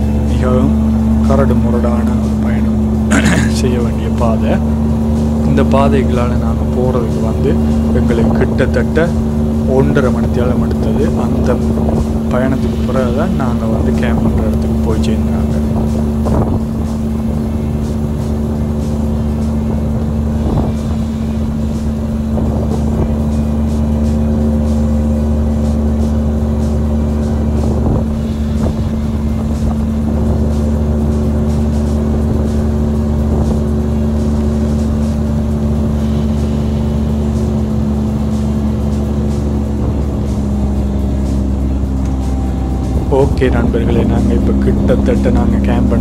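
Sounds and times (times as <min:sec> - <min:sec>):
outboard motor running: 0:00.0 - 0:46.0.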